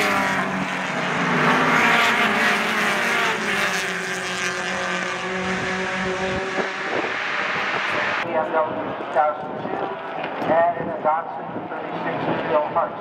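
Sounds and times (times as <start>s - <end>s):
race car engine at speed: 0.0s - 10.5s.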